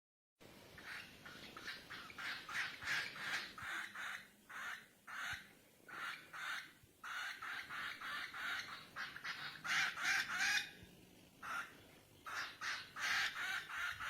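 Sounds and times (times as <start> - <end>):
bird harsh calls: 0.8 - 10.8, 11.4 - 14.0.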